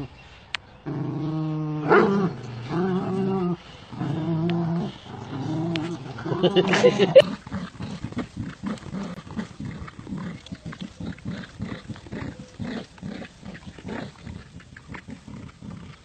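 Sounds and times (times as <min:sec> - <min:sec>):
dogs growling in play: 0:00.8 - 0:16.0.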